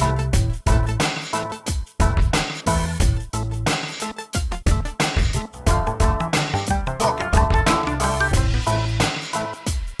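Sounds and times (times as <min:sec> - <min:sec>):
funk music with drums and bass: 0:00.0 - 0:10.0.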